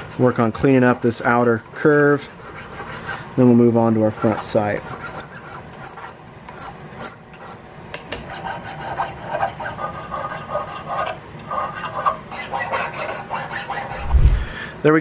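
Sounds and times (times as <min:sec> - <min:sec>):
hand file rasping on metal: 0:00.0 - 0:03.3, 0:04.1 - 0:07.6, 0:08.2 - 0:14.0.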